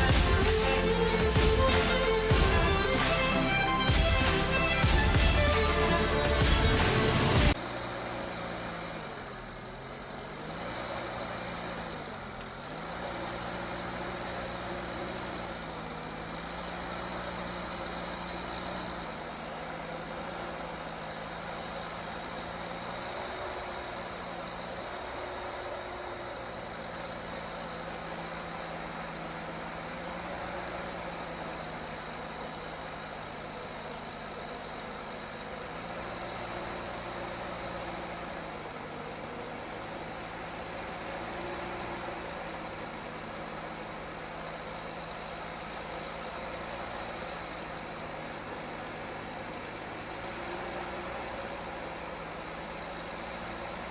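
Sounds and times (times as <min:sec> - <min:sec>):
heavy vehicle engine at low revs: 0:00.0 - 0:53.9.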